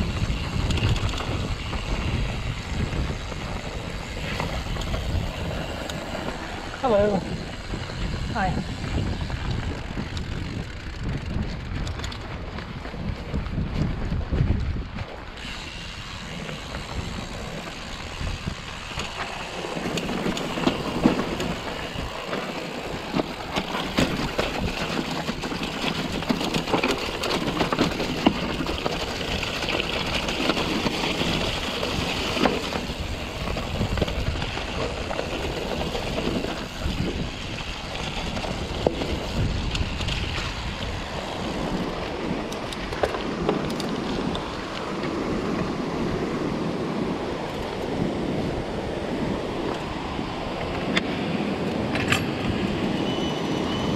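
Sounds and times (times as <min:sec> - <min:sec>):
bike rattling and knocking: 0:00.0 - 0:46.6
bike tyres crunching over rock: 0:00.0 - 0:47.1
wind noise on microphone: 0:00.0 - 0:53.9.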